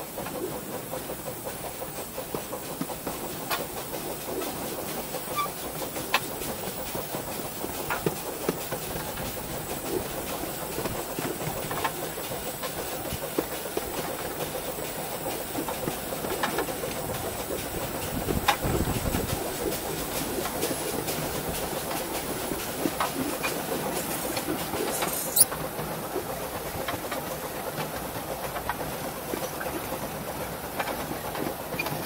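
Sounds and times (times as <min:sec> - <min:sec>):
steam locomotive hissing: 0:00.0 - 0:32.0
wheels clicking on rails: 0:00.0 - 0:32.0.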